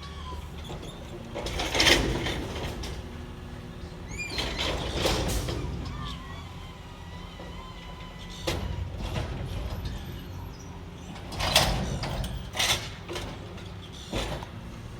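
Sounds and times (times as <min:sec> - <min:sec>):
garbage truck engine rumble: 0:00.0 - 0:14.9.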